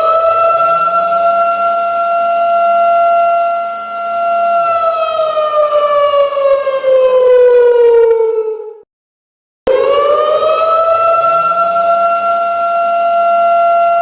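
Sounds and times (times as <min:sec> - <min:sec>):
siren wailing: 0:00.0 - 0:08.9, 0:09.7 - 0:14.0.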